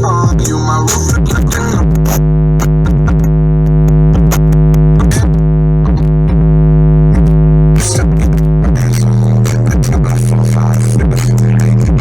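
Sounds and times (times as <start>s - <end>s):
hip hop instrumental through car speakers: 0.0s - 12.0s.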